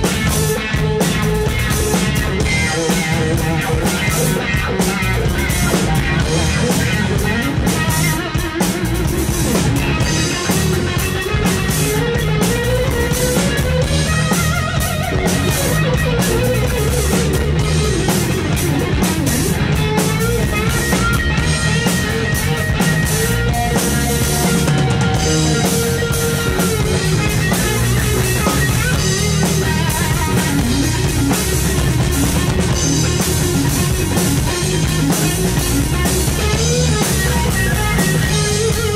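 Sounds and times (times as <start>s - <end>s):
drum kit: 0.0s - 38.9s
electric guitar melody: 0.0s - 38.9s.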